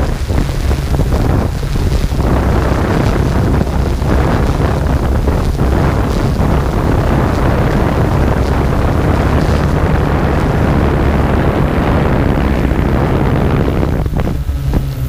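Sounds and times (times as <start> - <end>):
drone motors and propellers: 0.0 - 15.0
wind rushing over microphone: 0.0 - 15.0.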